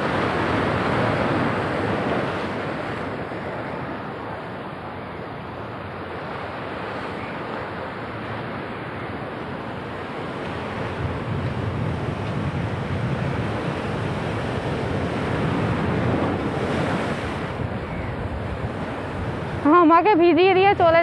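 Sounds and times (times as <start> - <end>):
waves splashing against sea wall: 0.0 - 21.0
wind buffeting microphone: 0.0 - 21.0.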